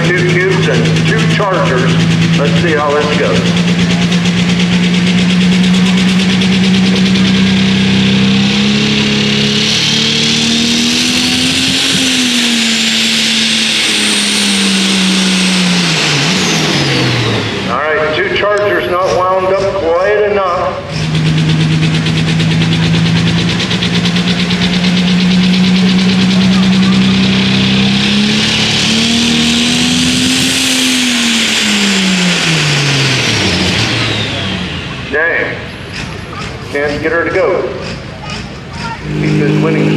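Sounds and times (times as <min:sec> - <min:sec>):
diesel truck engine under load: 0:00.0 - 0:39.9
turbo whine: 0:00.0 - 0:39.9.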